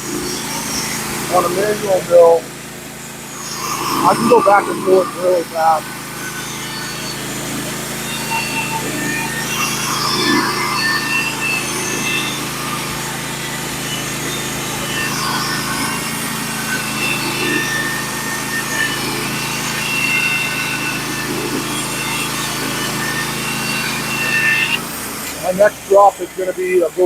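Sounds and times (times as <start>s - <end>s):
saw blade cutting wood: 0.0s - 27.0s
small engine running: 0.0s - 27.0s.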